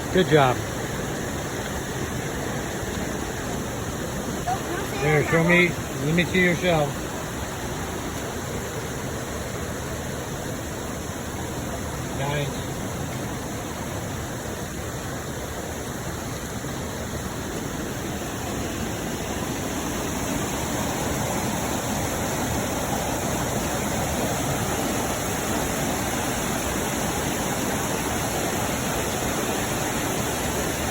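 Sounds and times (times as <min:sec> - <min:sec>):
waterfall and creek rushing: 0:00.0 - 0:30.9.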